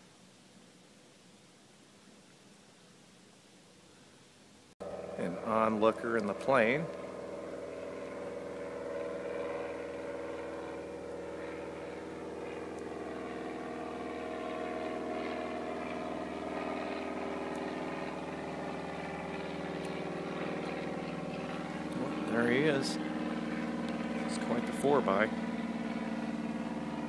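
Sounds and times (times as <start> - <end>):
propeller airplane flying past: 4.8 - 27.0.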